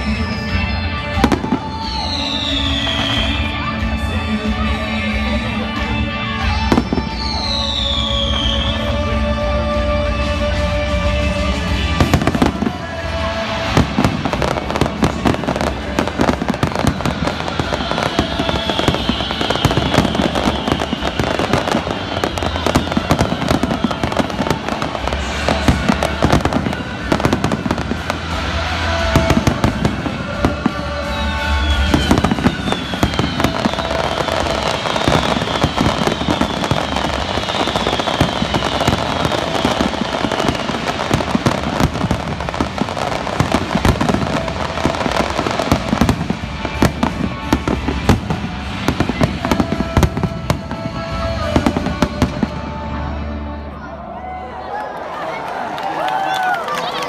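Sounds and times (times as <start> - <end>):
fireworks bursts and crackles: 0.0 - 53.6.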